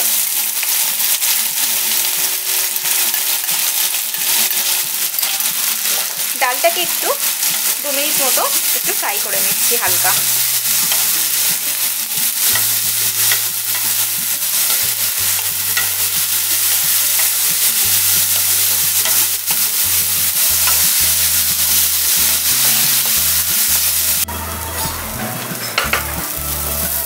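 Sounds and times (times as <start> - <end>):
lentils sizzling in hot oil: 0.0 - 27.0.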